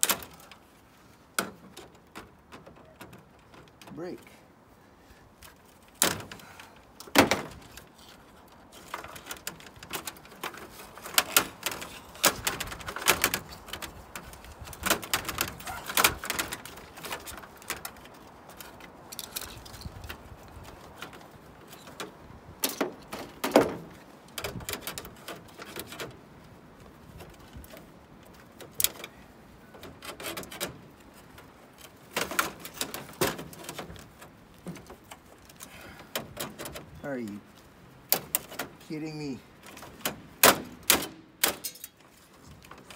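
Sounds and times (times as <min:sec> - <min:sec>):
clicks knocks and rattles of panels: 0:00.0 - 0:00.6, 0:01.4 - 0:04.1, 0:05.5 - 0:37.0, 0:38.1 - 0:38.9, 0:39.6 - 0:42.9.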